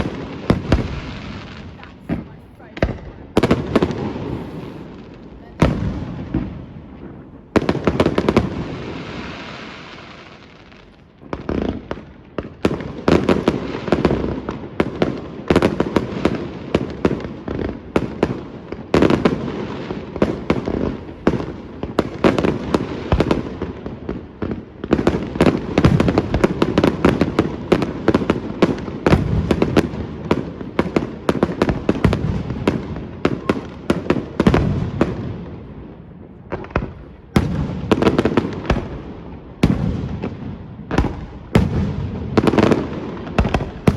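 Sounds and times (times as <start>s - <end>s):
firework bangs: 0.0s - 43.9s
fireworks crackling: 0.0s - 43.9s.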